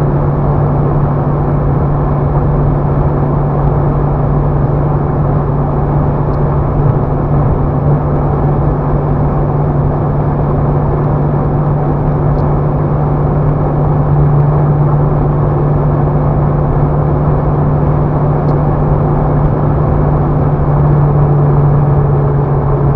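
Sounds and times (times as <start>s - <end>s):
diesel engine running steadily: 0.0s - 22.9s
road and wind noise: 0.0s - 22.9s.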